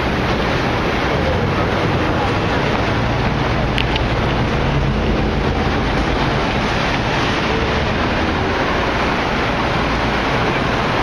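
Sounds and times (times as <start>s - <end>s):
road traffic roar: 0.0s - 11.0s.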